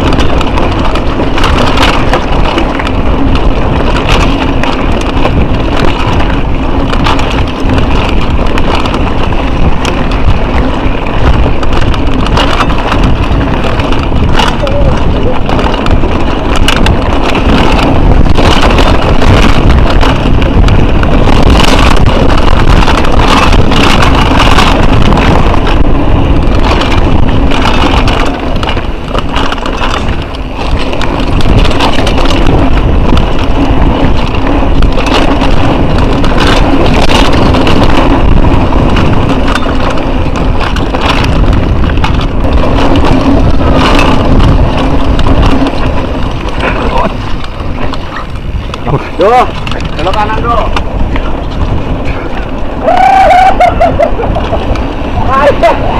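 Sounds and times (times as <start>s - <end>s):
bike clattering over rough ground: 0.0s - 55.9s
wind noise on microphone: 0.0s - 55.9s.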